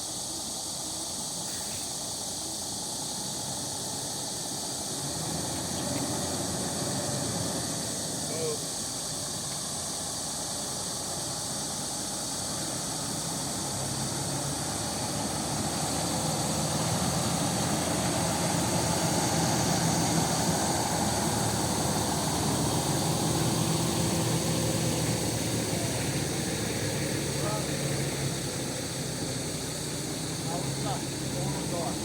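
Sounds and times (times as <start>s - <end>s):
heavy engine humming: 0.0s - 32.0s.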